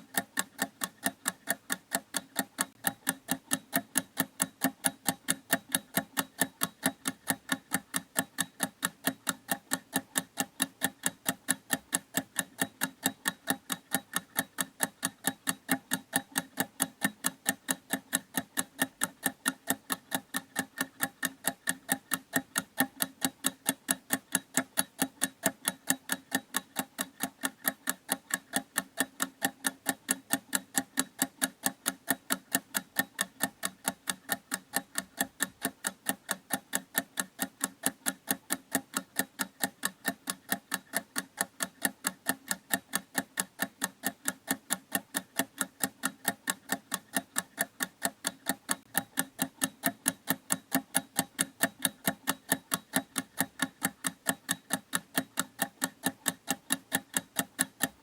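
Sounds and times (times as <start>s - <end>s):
mechanical clock ticking: 0.0s - 58.0s.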